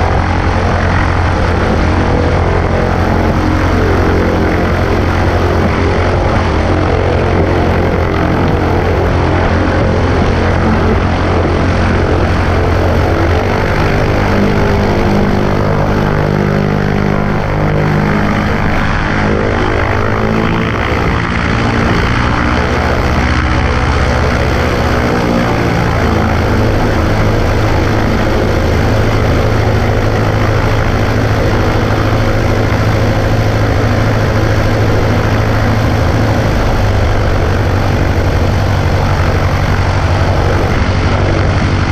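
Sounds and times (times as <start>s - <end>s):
propeller plane engine running: 0.0s - 41.9s
rushing wind noise: 0.0s - 41.9s.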